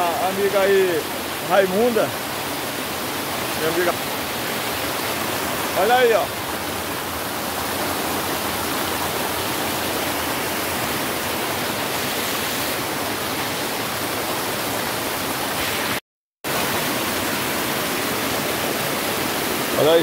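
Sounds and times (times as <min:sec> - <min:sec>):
white water rushing: 0:00.0 - 0:20.0.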